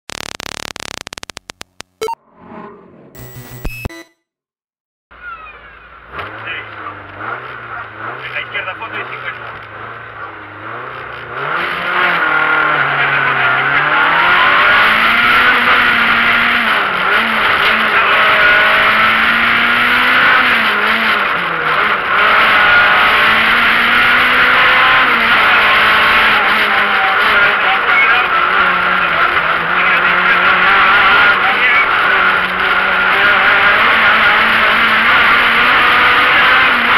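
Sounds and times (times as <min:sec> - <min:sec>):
car engine accelerating through gears: 0:06.1 - 0:36.9.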